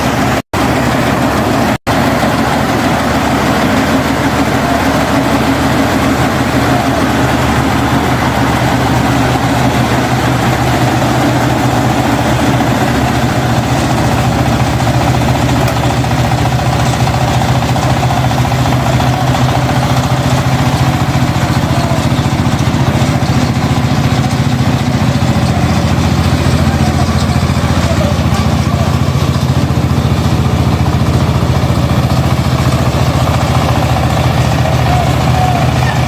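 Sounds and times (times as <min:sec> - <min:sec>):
combine harvester engine idling: 0:00.0 - 0:36.0.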